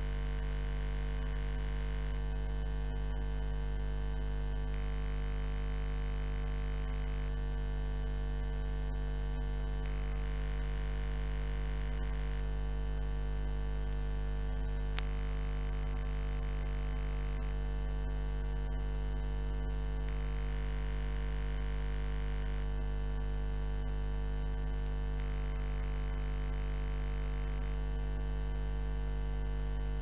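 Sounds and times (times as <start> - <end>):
electrical mains hum with buzz: 0.0 - 30.0.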